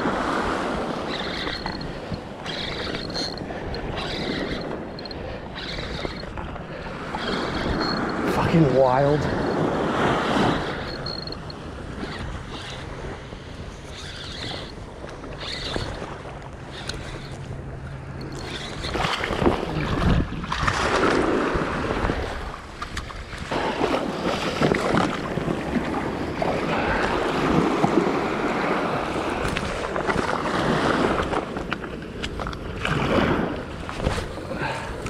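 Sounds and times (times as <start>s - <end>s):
small waves washing on beach: 0.0s - 14.0s, 17.4s - 35.0s
wind buffeting microphone: 0.0s - 35.0s.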